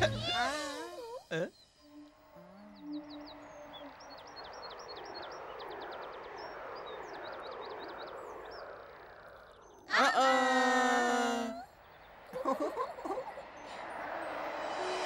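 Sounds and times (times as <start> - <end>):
steady rushing hiss: 0.0 - 9.8, 11.7 - 15.0
small birds chirping: 0.0 - 15.0.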